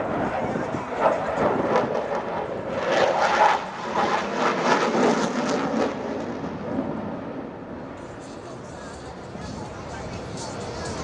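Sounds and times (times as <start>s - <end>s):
fighter jet engine rushing: 0.0s - 11.0s.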